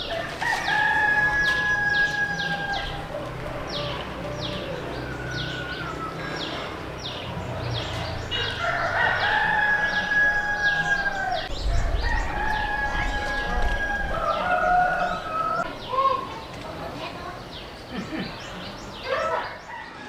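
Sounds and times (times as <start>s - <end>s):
roosters crowing: 0.0s - 20.0s.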